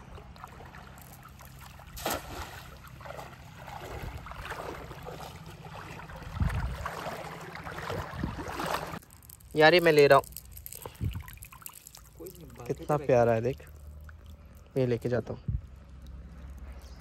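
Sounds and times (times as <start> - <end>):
wading through river water: 0.0 - 9.4, 10.4 - 17.0.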